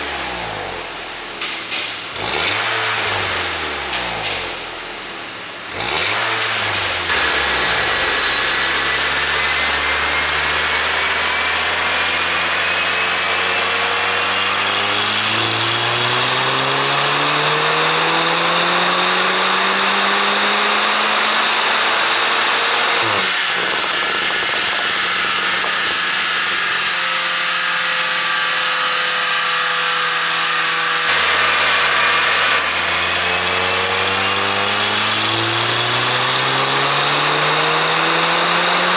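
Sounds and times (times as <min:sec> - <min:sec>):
car engine and exhaust revving: 0:00.0 - 0:38.9.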